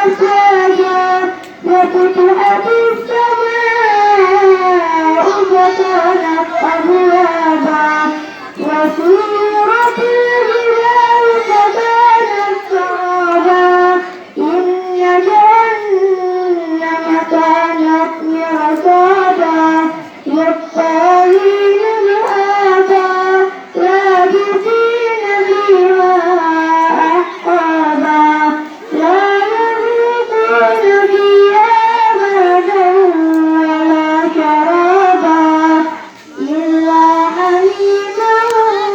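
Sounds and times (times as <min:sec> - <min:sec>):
girl reciting melodically: 0:00.0 - 0:38.9.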